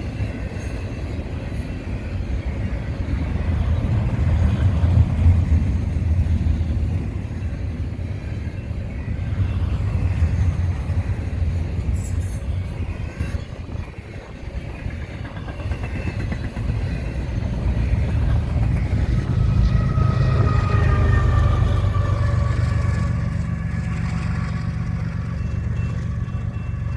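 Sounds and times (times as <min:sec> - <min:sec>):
freight train rumbling and clattering: 0:00.0 - 0:26.9.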